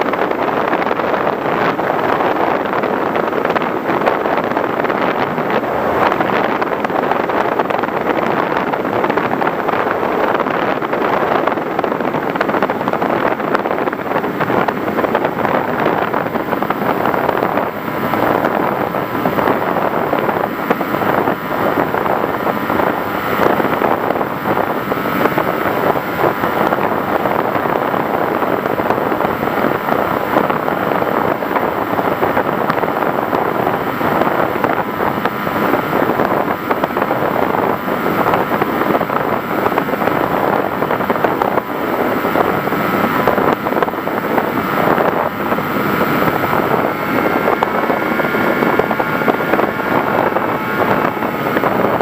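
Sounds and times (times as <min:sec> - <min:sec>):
faint steady whine: 0:00.0 - 0:52.0
wind rushing: 0:00.0 - 0:52.0.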